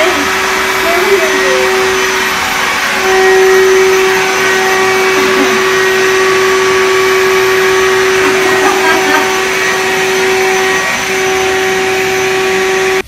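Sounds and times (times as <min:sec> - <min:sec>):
electric air pump running: 0:00.0 - 0:13.0.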